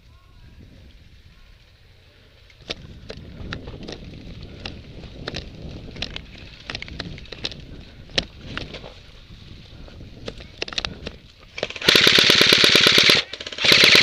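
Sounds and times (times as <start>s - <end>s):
wind rumbling on microphone: 0.0s - 11.6s.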